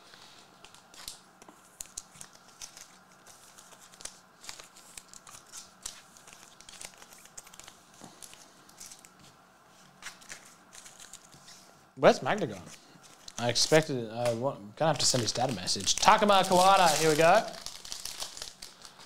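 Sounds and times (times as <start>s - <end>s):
cards being handled: 0.2s - 11.6s, 12.5s - 14.4s, 15.0s - 19.0s
foil wrapper crinkling and tearing: 0.6s - 9.2s, 10.0s - 11.4s, 13.0s - 19.0s.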